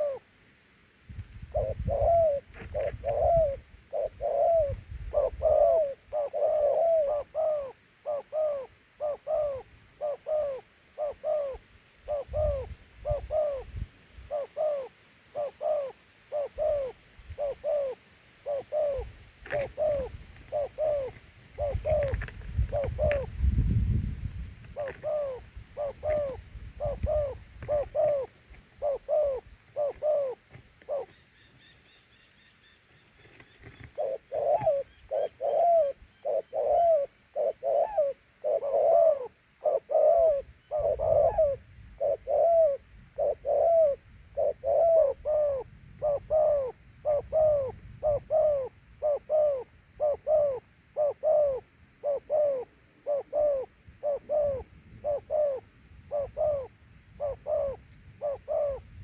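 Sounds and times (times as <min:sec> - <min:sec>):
dove cooing: 0:00.0 - 0:00.3, 0:01.4 - 0:32.0, 0:33.2 - 0:59.0.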